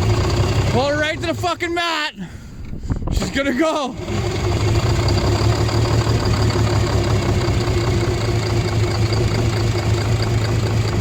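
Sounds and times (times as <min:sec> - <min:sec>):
diesel engine cranking on starter: 0:00.0 - 0:11.0.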